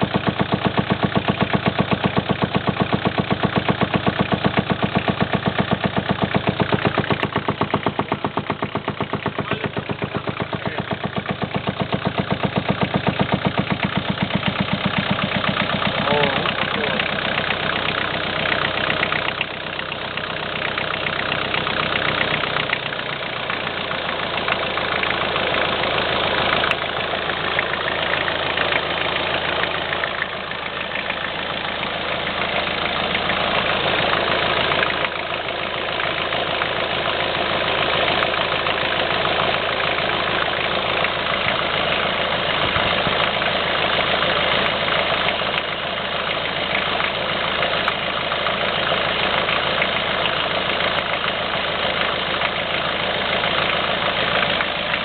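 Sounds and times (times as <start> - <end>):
engine idling with rhythmic knock: 0.0 - 55.0.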